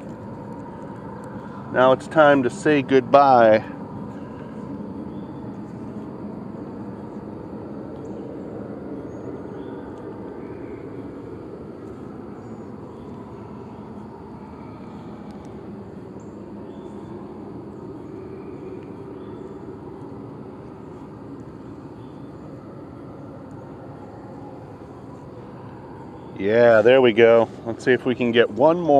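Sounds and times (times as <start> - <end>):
low outdoor rumble: 0.0 - 28.9
faint bird chirps: 4.0 - 28.3.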